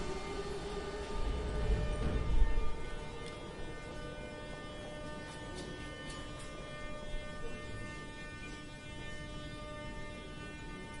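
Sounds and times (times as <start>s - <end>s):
train electrical hum: 0.0s - 11.0s.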